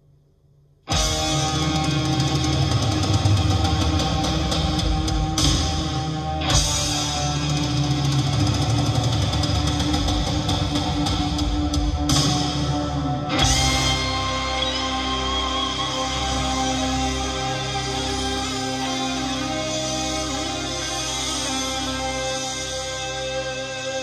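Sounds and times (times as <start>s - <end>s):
rock music with electric guitar: 0.9s - 24.0s.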